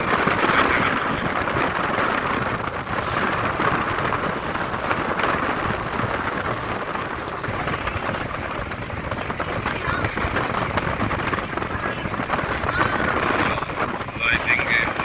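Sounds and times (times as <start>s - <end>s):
uneven low rumble: 0.0s - 15.0s
wind blowing across microphone: 0.0s - 15.0s.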